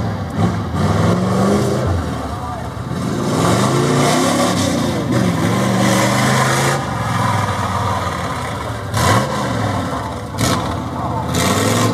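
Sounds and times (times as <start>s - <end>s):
pickup truck engine revving: 0.0s - 11.9s.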